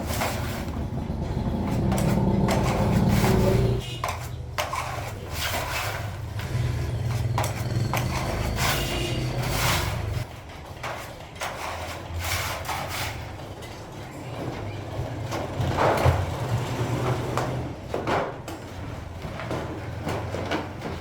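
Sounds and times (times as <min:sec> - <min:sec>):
metal knocks and scrapes: 0:00.0 - 0:21.0.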